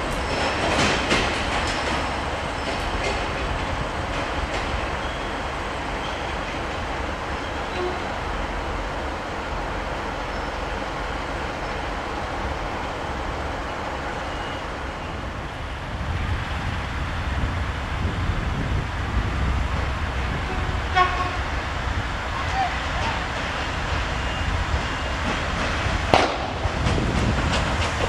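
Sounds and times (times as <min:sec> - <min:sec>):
diesel railcar idling: 0:00.0 - 0:28.0.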